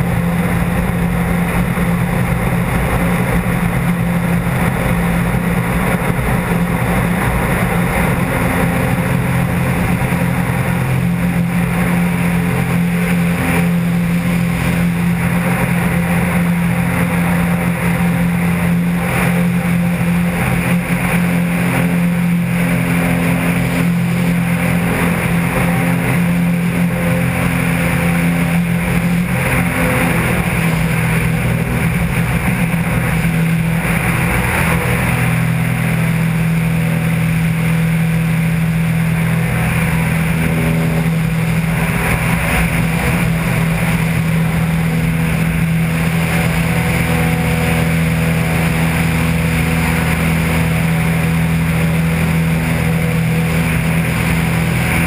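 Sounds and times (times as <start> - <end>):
airplane engine drone: 0.0 - 55.0
wind rush: 0.0 - 55.0.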